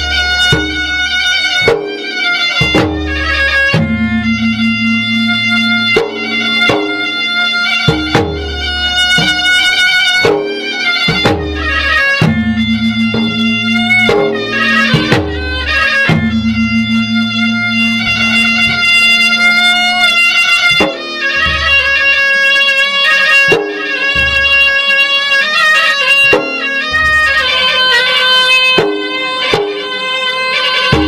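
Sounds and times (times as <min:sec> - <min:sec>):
shrill held melody: 0:00.0 - 0:31.0.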